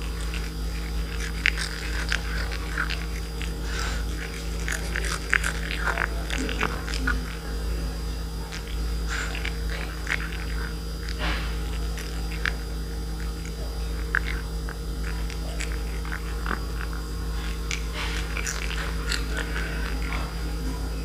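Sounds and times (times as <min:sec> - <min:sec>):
kitten chewing and crunching: 0:00.0 - 0:21.0
low hum: 0:00.0 - 0:21.0.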